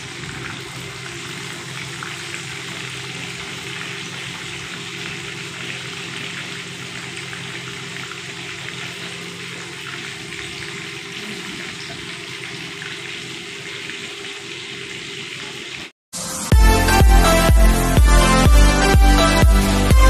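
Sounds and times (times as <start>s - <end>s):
fish deep-frying in hot oil: 0.0s - 16.3s.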